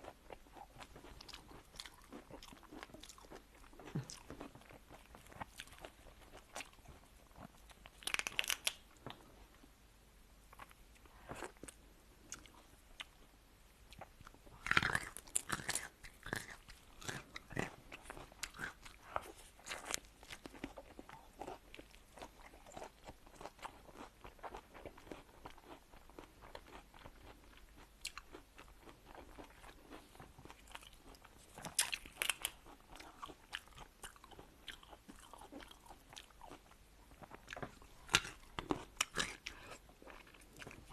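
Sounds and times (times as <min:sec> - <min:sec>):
chewing and mouth clicks: 0:00.0 - 0:09.2, 0:13.9 - 0:40.9.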